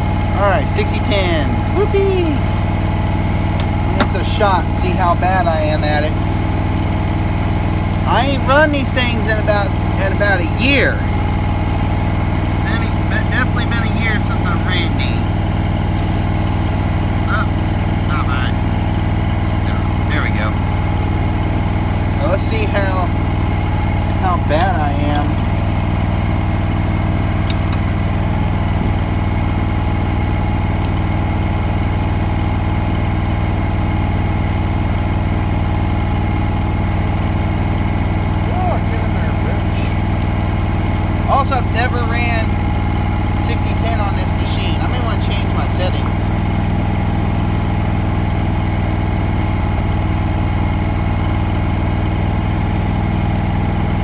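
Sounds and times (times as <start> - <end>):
welder engine running: 0.0 - 54.0.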